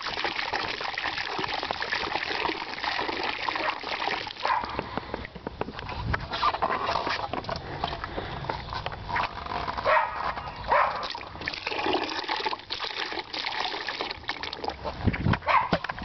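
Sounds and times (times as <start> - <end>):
glugs and gurgles from tank: 0.0 - 9.8, 10.4 - 16.0.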